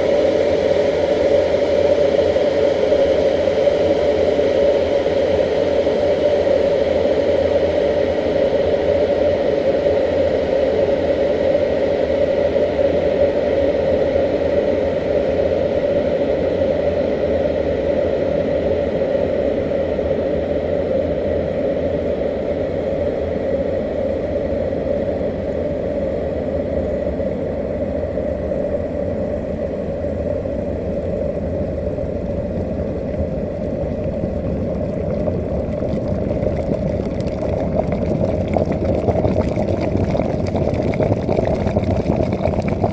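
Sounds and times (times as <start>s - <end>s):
water boiling in kettle: 0.0s - 42.9s.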